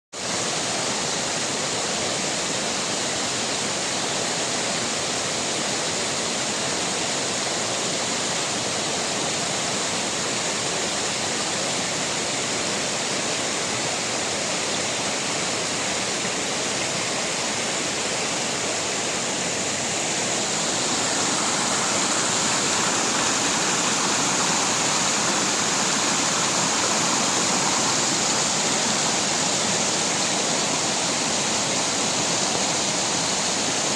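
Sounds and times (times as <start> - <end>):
waterfall pouring into pool: 0.2 - 33.9.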